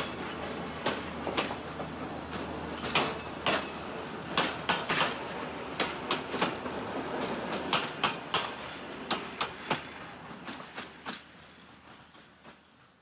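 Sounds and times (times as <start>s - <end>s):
train rolling rumble: 0.0s - 13.0s
train wheels clacking over rail joints: 0.0s - 13.0s.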